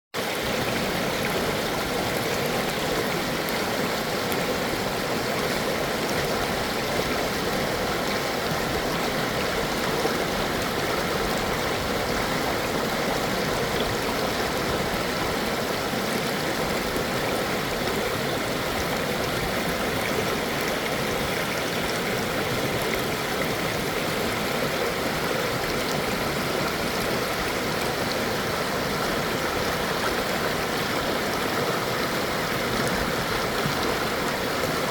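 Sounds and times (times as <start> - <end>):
stream of water running: 0.2 - 34.9.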